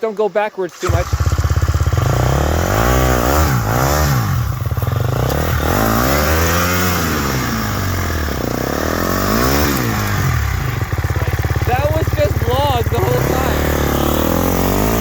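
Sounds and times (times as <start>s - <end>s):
dirt bike engine revving: 0.7s - 15.0s.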